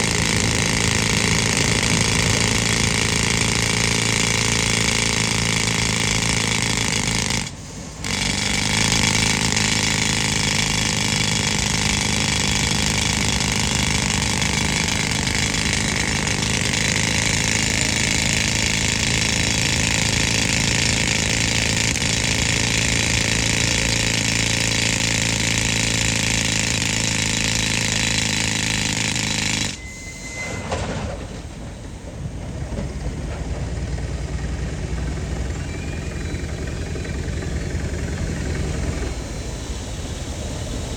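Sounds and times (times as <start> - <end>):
air compressor engine running: 0.0 - 40.9
pneumatic rock drill hammering: 0.0 - 40.9.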